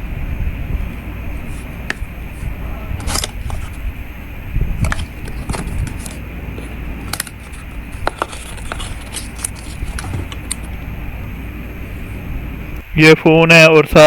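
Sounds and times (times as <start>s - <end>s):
steady low rumble: 0.0s - 13.5s.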